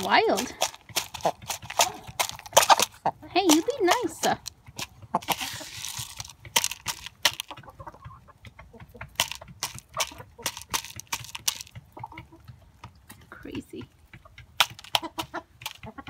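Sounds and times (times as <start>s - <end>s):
hen clucking: 0.0s - 16.0s.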